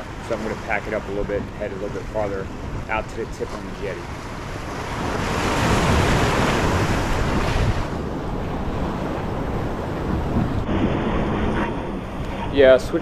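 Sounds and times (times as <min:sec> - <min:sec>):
waves breaking over rocks: 0:00.0 - 0:13.0
wind buffeting microphone: 0:00.0 - 0:13.0.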